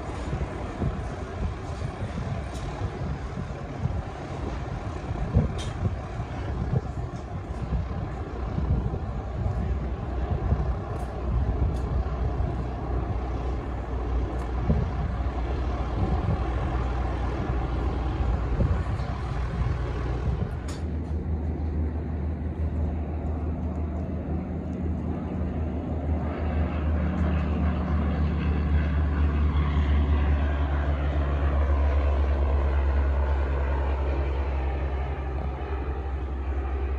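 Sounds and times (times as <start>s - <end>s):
light aircraft engine and propeller drone: 0.0s - 36.9s.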